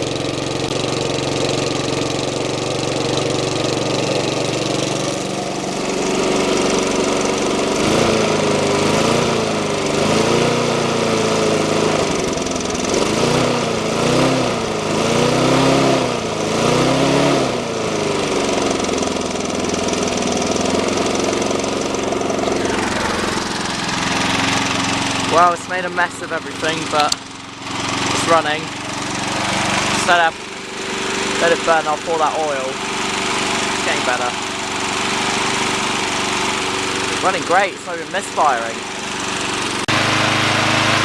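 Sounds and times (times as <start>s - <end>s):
lawnmower engine surging: 0.0s - 41.0s.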